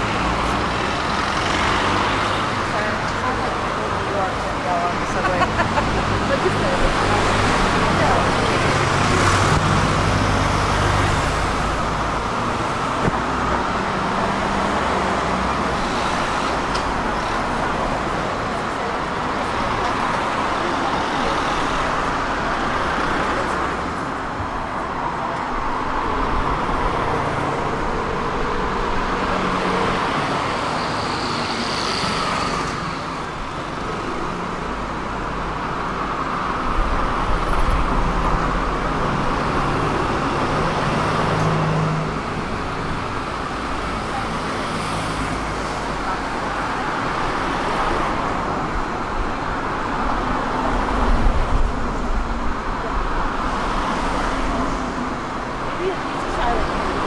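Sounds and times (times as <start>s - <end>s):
tram rumbling on tracks: 0.0s - 57.0s.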